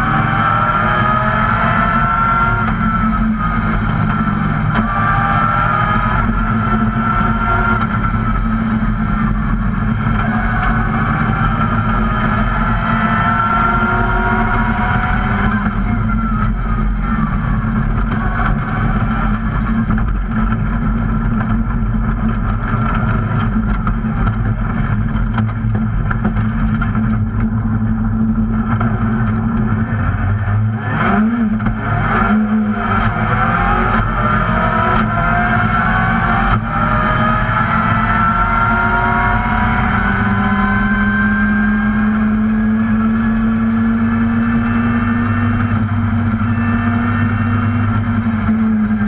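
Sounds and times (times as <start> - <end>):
rally car engine revving: 0.0 - 49.0.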